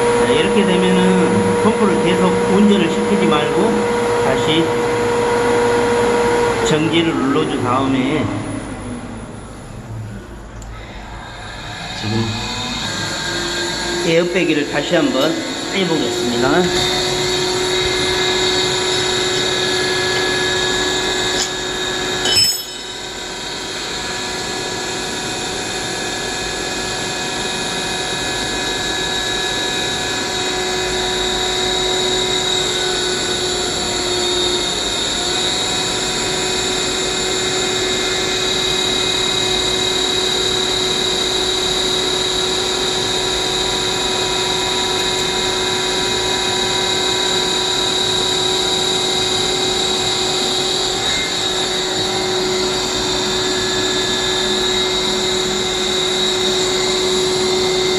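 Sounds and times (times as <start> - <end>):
water pump whining: 0.0 - 22.2, 22.8 - 57.9.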